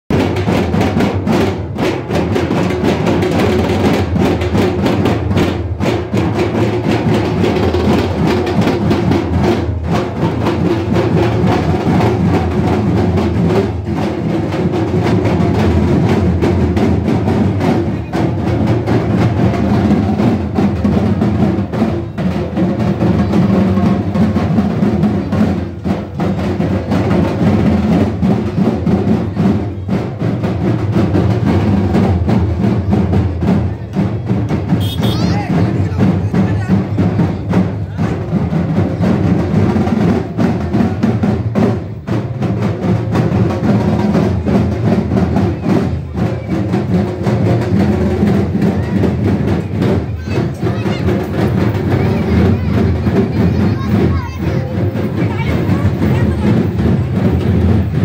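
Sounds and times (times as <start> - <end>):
barrel drums beaten with sticks: 0.1 - 58.0.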